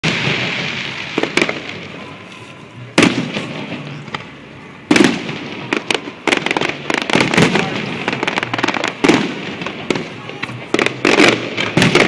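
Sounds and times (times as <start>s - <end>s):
fireworks bangs and booms: 0.0s - 12.0s
fireworks crackling: 0.0s - 12.0s.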